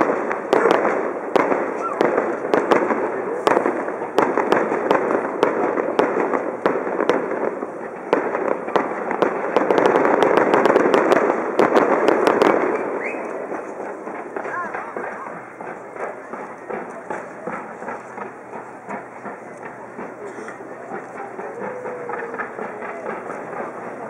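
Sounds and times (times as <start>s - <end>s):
distant fireworks bangs: 0.0s - 24.0s.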